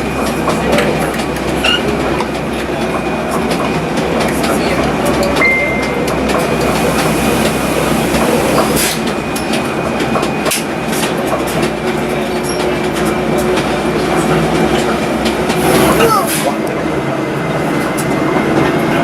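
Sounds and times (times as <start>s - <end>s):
electric train running rumble: 0.0s - 19.0s.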